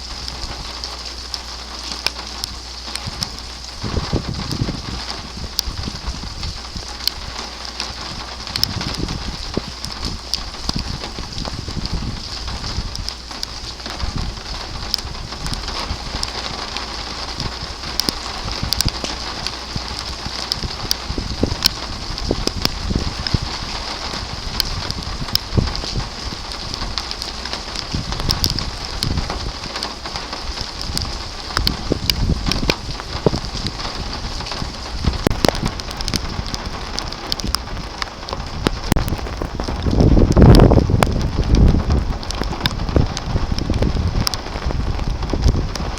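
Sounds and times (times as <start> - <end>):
heavy rain falling: 0.0 - 45.9
wind gusts on microphone: 2.4 - 45.9.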